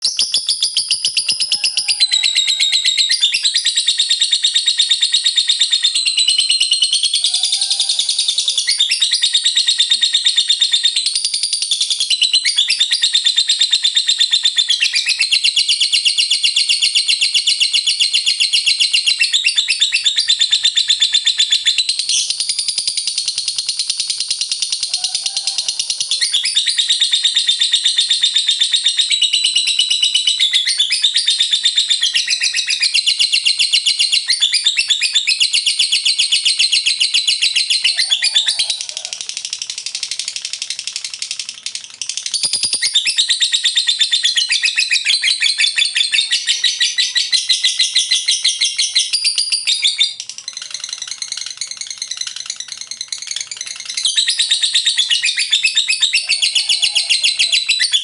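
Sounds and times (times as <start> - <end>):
lovebird chattering song: 0.0 - 58.0.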